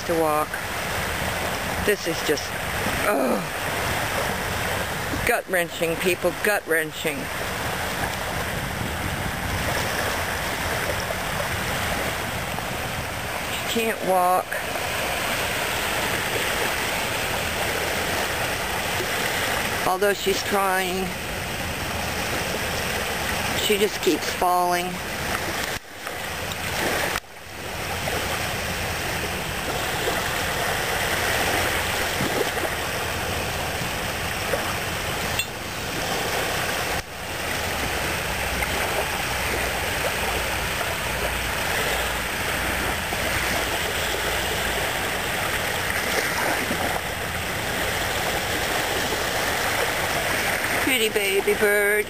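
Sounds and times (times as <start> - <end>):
surf at the shoreline: 0.0 - 52.0
wind: 0.0 - 52.0.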